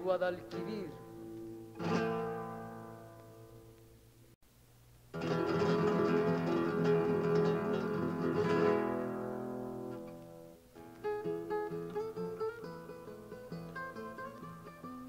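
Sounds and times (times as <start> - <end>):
acoustic guitar strummed chord: 0.0 - 3.8, 5.1 - 15.0
plucked guitar notes: 0.0 - 4.0, 5.1 - 15.0.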